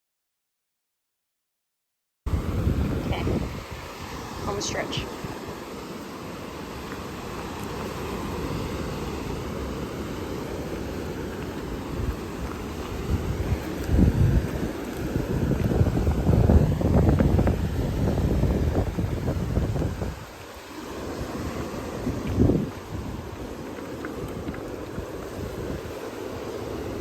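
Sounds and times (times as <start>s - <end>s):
ocean surf: 2.3s - 27.0s
wind buffeting microphone: 2.3s - 27.0s.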